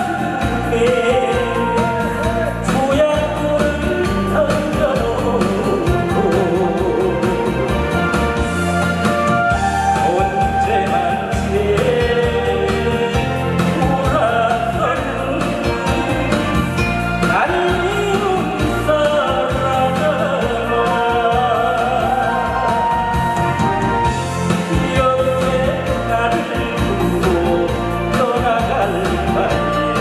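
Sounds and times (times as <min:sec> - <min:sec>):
music with steady beat: 0:00.0 - 0:30.0
person singing with vibrato: 0:00.0 - 0:30.0.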